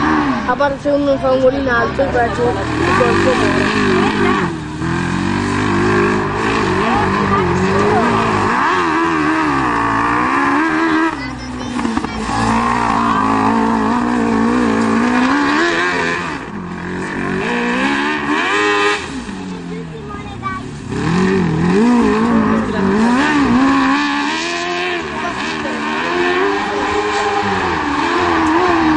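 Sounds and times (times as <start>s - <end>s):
three-wheeler engine revving: 0.0s - 28.9s.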